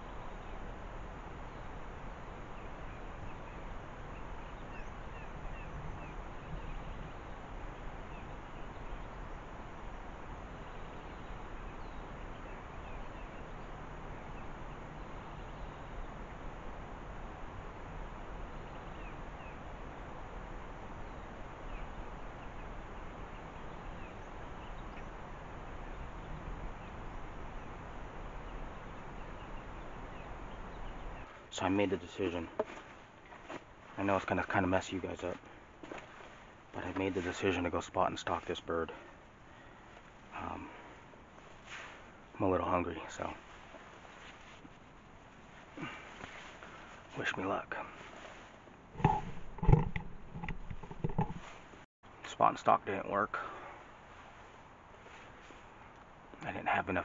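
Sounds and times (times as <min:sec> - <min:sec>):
small birds chirping: 0:00.0 - 0:51.6
steady outdoor hiss: 0:00.0 - 0:57.0.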